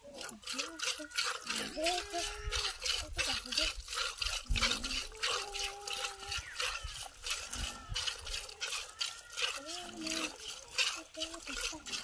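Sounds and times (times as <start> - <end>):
milk squirting into bucket: 0.0 - 12.0.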